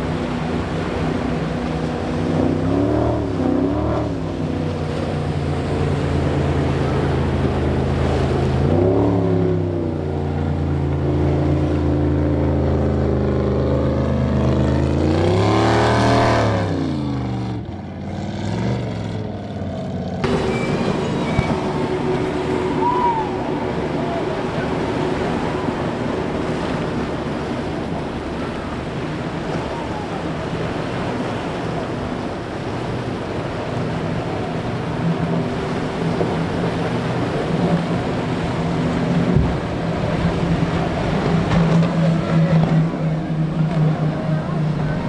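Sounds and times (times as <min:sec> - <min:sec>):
powerboat engines humming: 0:00.0 - 0:45.0
waves and surf: 0:00.0 - 0:45.0.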